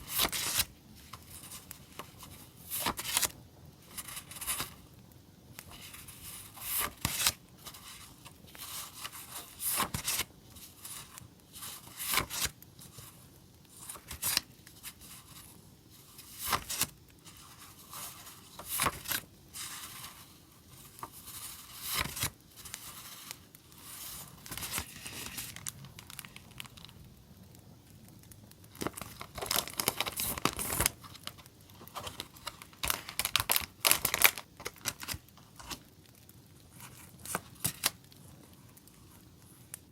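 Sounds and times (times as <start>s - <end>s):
packaging rustling and crinkling: 0.0s - 4.9s, 5.5s - 27.1s, 28.6s - 39.9s.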